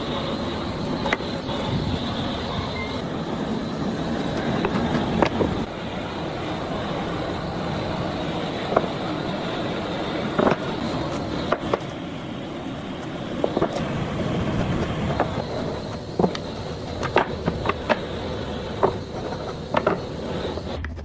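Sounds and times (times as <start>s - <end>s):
machine rumbling: 0.0s - 21.0s.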